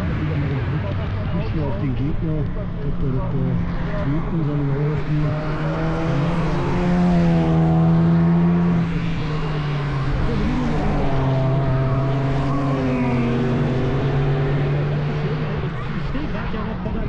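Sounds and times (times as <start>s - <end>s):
racing car engines droning: 0.0s - 17.0s.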